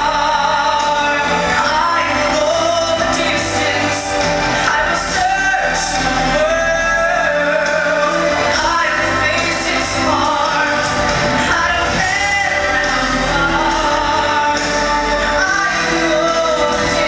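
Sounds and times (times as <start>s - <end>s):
instrumental accompaniment: 0.0s - 17.0s
man singing pop song: 0.0s - 17.0s.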